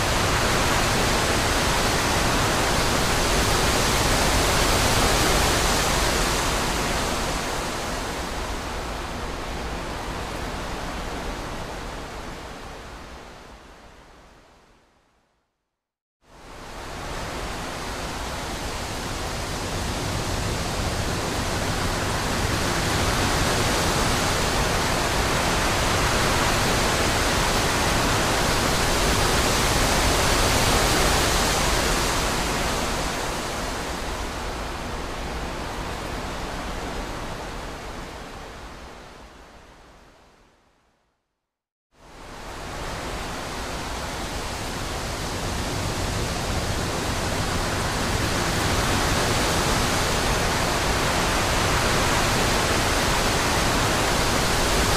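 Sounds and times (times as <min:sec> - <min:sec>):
wind blowing through trees: 0:00.0 - 0:15.2, 0:16.2 - 0:41.0, 0:42.0 - 0:54.9.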